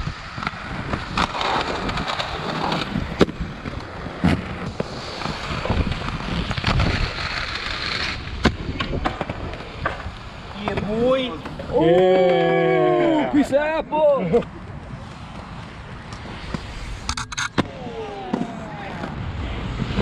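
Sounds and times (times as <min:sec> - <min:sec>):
skate wheels rolling on concrete: 0:00.0 - 0:20.0.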